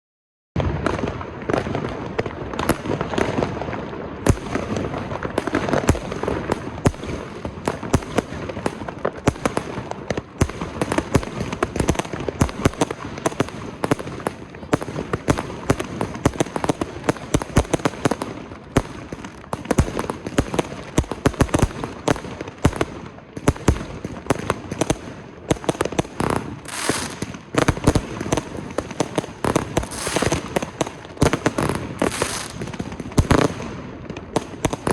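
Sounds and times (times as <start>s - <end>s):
firework bangs and cracks: 0.6s - 34.9s.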